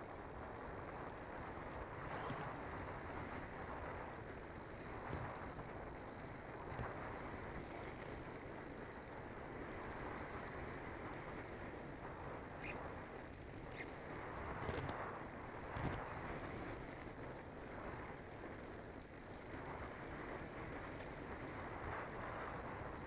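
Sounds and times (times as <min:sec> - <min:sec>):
rushing wind: 0:00.0 - 0:23.0.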